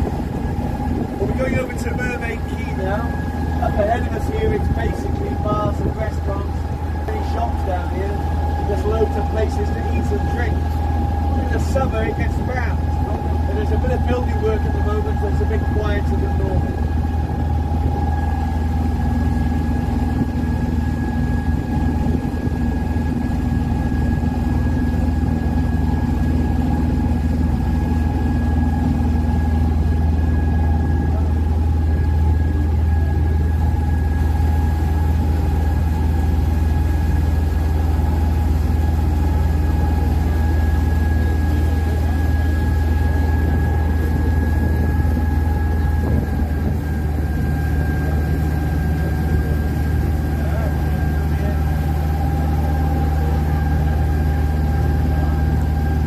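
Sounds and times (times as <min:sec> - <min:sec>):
boat engine droning: 0:00.0 - 0:56.0
high engine whine: 0:00.0 - 0:56.0.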